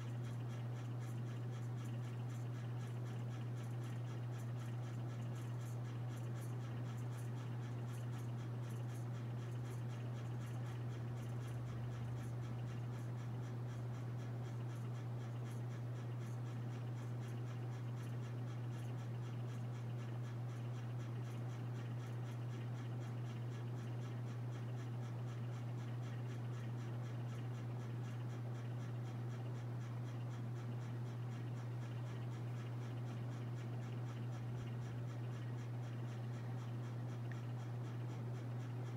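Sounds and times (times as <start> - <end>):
ceiling fan motor hum: 0.0 - 38.9
fast ticking of fan blades: 0.0 - 38.9.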